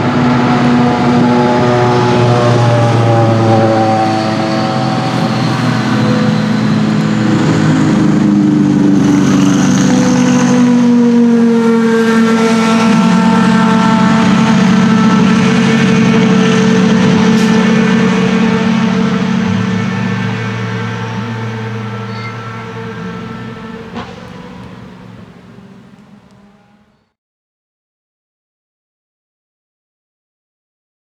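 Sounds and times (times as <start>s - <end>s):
racing car engines: 0.0s - 27.2s.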